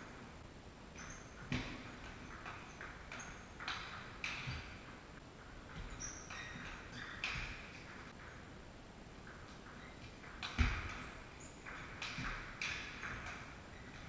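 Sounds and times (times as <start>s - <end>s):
shoes squeaking on floor: 1.0s - 8.2s, 9.5s - 14.0s.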